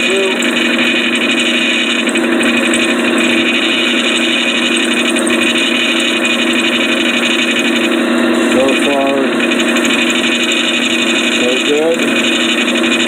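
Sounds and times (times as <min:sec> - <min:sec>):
engine running: 0:00.0 - 0:13.0
magnetic drill drilling: 0:00.0 - 0:13.0.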